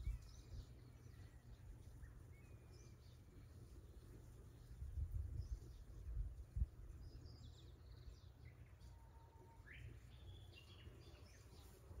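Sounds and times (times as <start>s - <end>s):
birds chirping and whistling: 0.0s - 6.2s, 6.9s - 12.0s.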